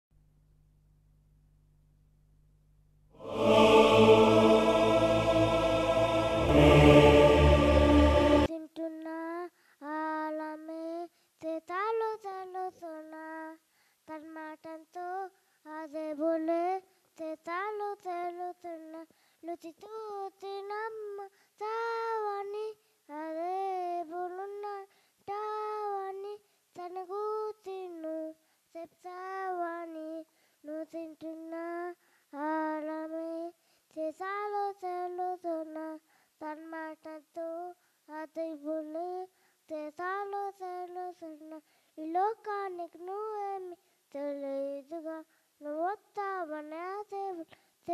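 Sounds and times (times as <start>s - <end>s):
child singing into microphone: 8.4s - 47.9s.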